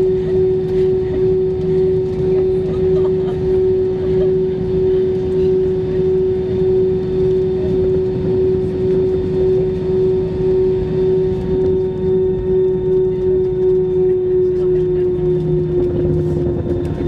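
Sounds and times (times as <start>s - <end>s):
airplane engine drone in cabin: 0.0s - 17.0s.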